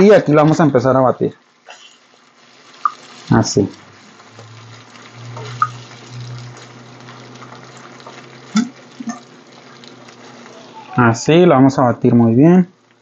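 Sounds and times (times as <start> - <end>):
eggs sizzling in a wok: 0.0 - 11.6, 12.2 - 13.0.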